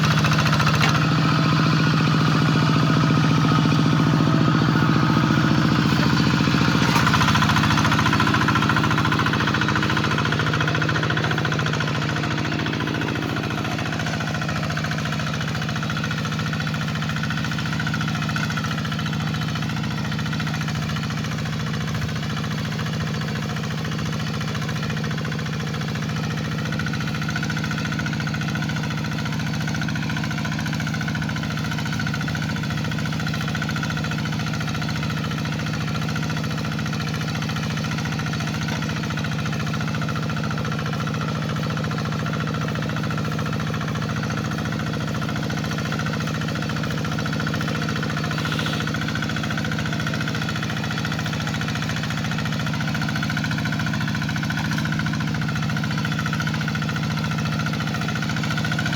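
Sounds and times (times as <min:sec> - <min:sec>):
hand tractor engine droning: 0:00.0 - 0:58.9.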